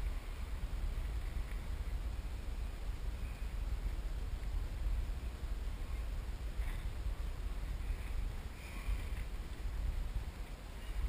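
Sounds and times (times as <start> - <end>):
faint hiss: 0.0 - 11.0
wind rumble on microphone: 0.0 - 11.0.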